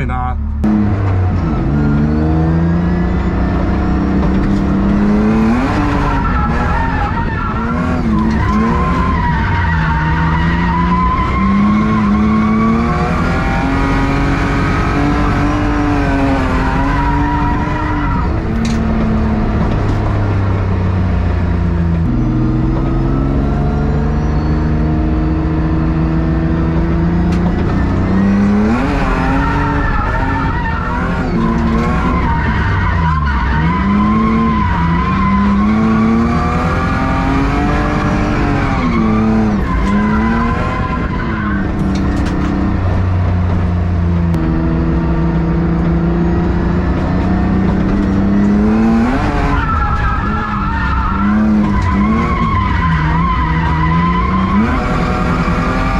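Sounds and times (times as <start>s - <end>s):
loud car engine revving: 0.0s - 55.9s
tires squealing: 1.1s - 55.9s.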